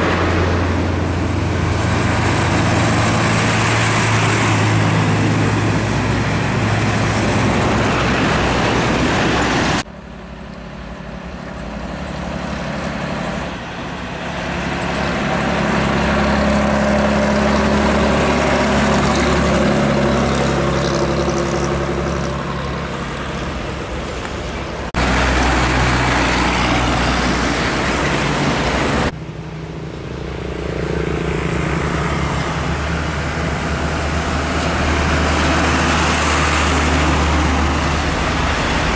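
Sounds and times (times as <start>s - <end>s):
diesel trucks driving past: 0.0s - 38.9s
tyre and road noise: 0.0s - 38.9s.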